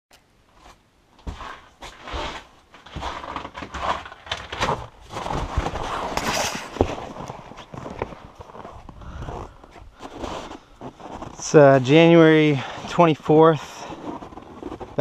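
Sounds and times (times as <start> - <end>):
footsteps crunching in snow: 0.6 - 15.0.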